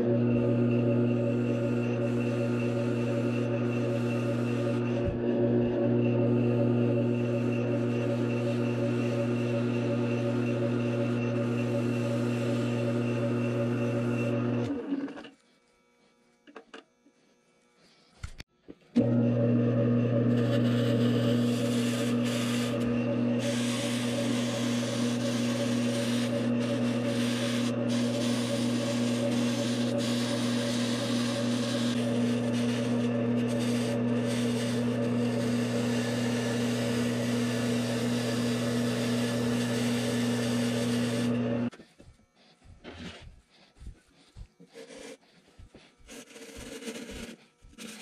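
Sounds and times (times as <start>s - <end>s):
lathe motor hum: 0.0s - 16.7s, 19.0s - 48.0s
turning tool scraping foam: 0.0s - 16.8s, 20.1s - 48.0s.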